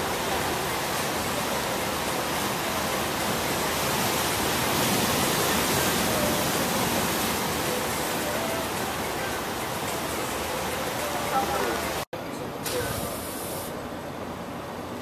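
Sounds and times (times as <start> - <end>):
ocean surf breaking on rocks: 0.0 - 12.0.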